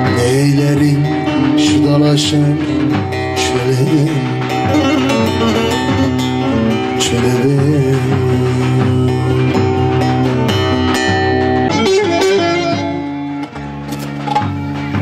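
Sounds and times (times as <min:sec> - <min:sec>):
amplified saz folk melody: 0:00.0 - 0:15.0
hand drum beat: 0:00.0 - 0:15.0.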